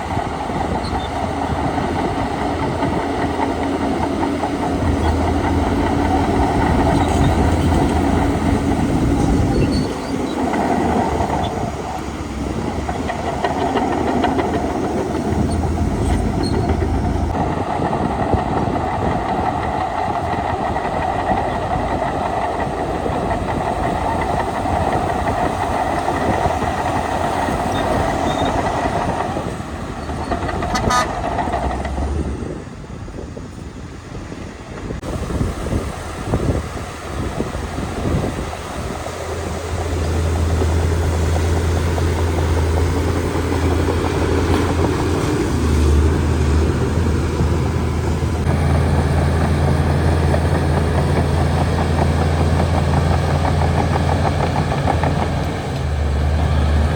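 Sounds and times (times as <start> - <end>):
diesel earthmoving machinery: 0.0 - 56.9.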